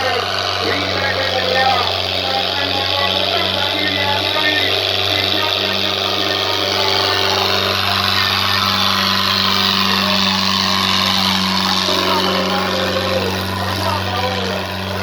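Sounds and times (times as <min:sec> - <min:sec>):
indistinct voices: 0:00.0 - 0:15.0
tractor diesel engine running: 0:00.0 - 0:15.0.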